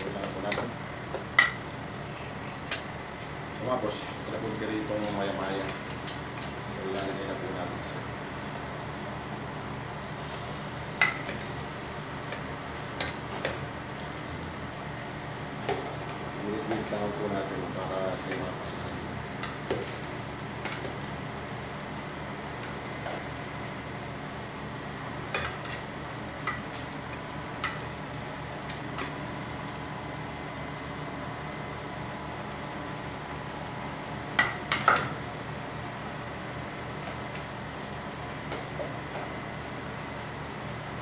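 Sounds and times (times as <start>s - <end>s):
sauce sizzling and bubbling: 0.0s - 41.0s
steady hiss and hum: 0.0s - 41.0s.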